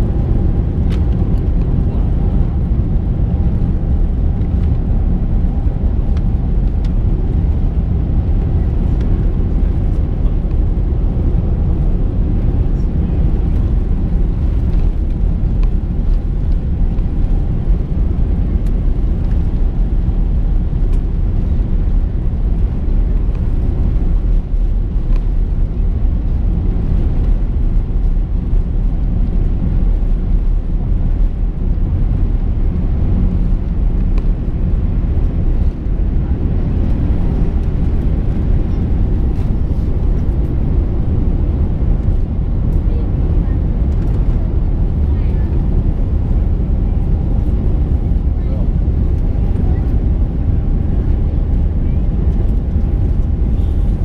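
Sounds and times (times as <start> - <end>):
airplane engines taxiing: 0.0 - 54.0.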